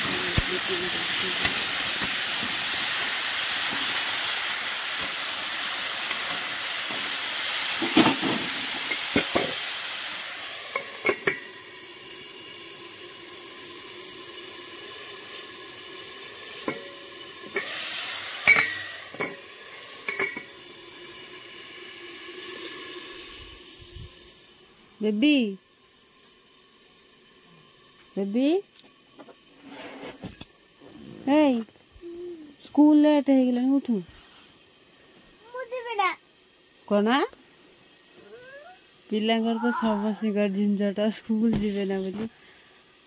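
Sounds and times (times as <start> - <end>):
potato sticks sizzling in oil: 0.0 - 43.0.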